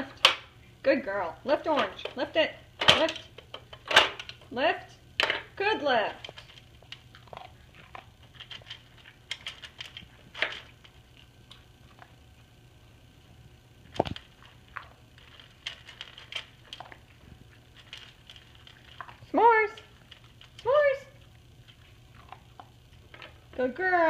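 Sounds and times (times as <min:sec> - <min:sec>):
puppy eating kibble: 0:00.0 - 0:24.0.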